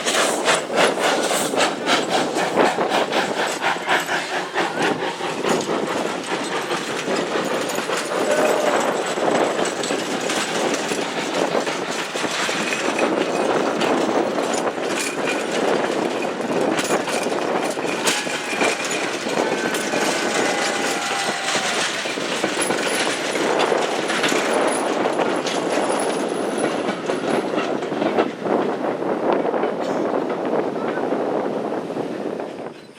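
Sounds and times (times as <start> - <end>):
wheel and rail clicks: 0.0 - 28.5
train rolling on track: 0.0 - 32.9.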